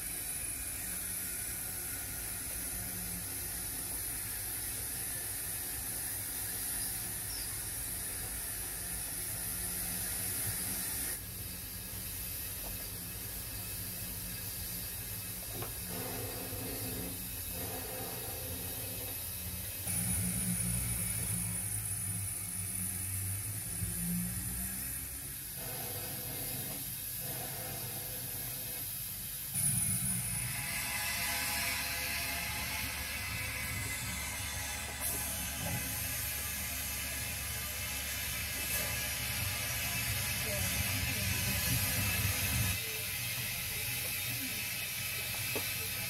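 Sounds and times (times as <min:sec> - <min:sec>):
model train motor hum: 0:00.0 - 0:46.0.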